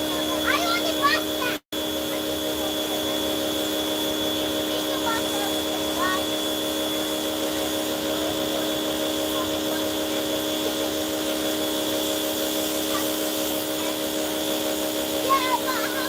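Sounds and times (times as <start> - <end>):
pressure washer running: 0.0 - 16.0.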